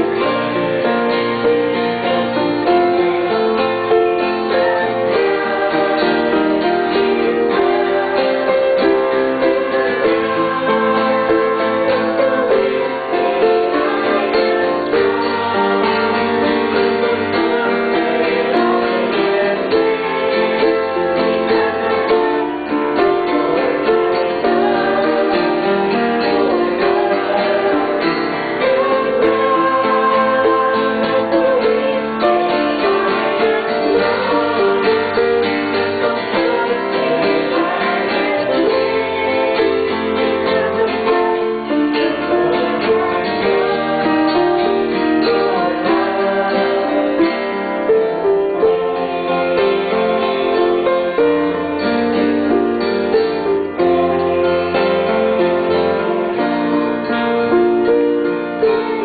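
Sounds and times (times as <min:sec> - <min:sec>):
piano and guitar music: 0:00.0 - 0:59.0.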